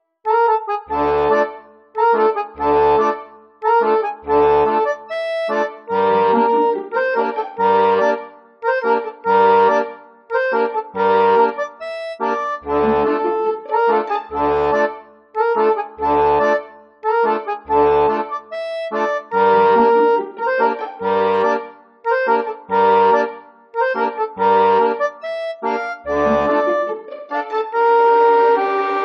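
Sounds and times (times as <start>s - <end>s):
reedy chords: 0.3s - 29.0s.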